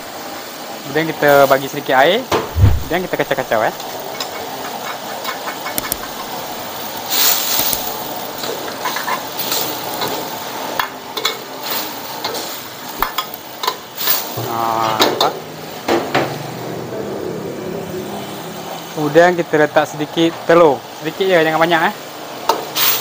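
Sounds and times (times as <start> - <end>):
hiss of simmering liquid and burner: 0.0 - 16.6, 18.1 - 23.0.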